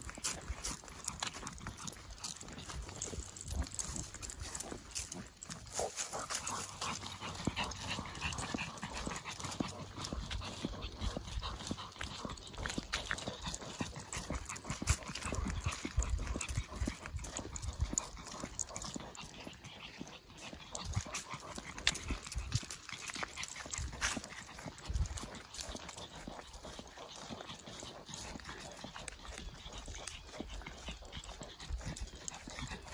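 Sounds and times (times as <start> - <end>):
dog heavy breathing: 0.0 - 32.9.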